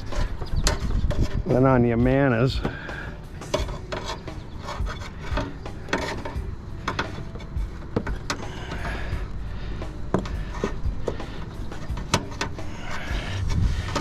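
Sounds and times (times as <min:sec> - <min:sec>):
parts scraping: 0:00.0 - 0:14.0
parts clicking and knocking: 0:02.5 - 0:14.0.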